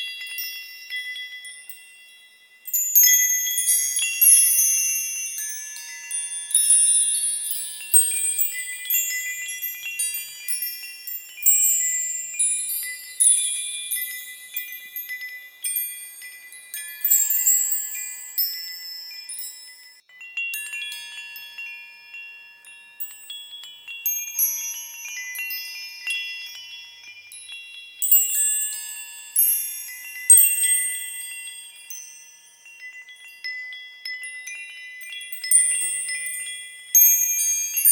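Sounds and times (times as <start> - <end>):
small high-pitched bells chiming: 0.0 - 37.9.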